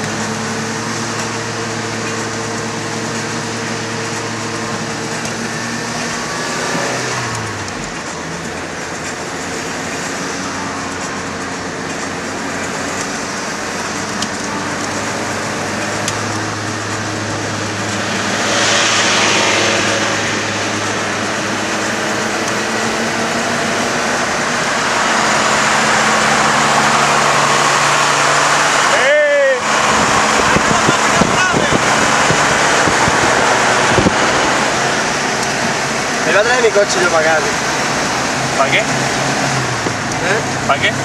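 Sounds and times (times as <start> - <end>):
car engine at highway speed: 0.0 - 41.0
tyre and road noise: 0.0 - 41.0.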